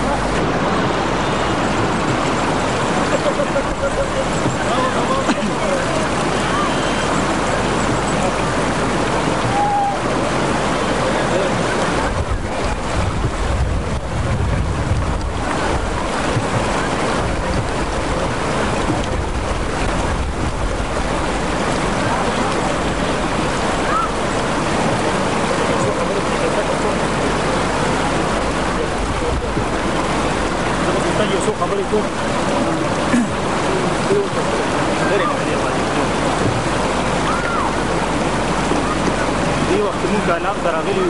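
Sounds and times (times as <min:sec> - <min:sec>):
river rushing over rocks: 0:00.0 - 0:41.0.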